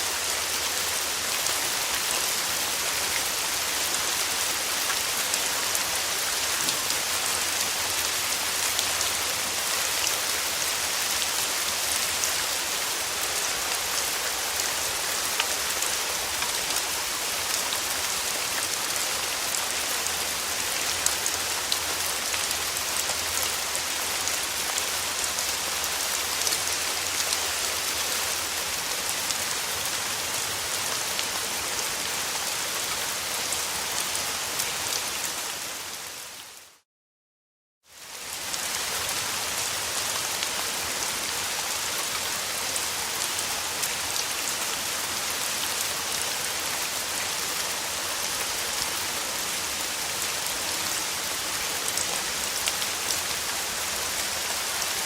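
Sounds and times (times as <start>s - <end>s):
steady rain falling: 0.0s - 36.8s, 37.9s - 55.0s.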